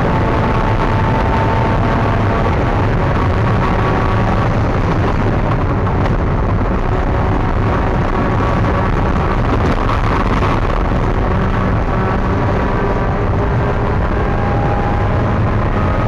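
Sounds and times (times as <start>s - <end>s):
race car engine running: 0.0s - 16.0s
wind and road noise: 0.0s - 16.0s.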